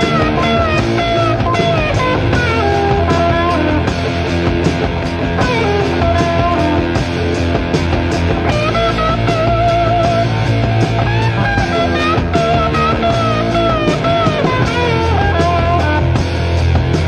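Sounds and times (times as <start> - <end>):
bass and drum backing: 0.0 - 17.0
electric lead guitar bent notes: 0.0 - 17.0.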